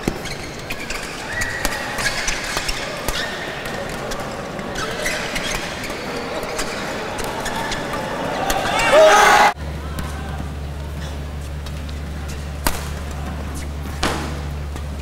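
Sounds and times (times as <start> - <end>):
rackets hitting shuttlecock: 0.0 - 8.7, 11.6 - 15.0
hall background noise: 0.0 - 15.0.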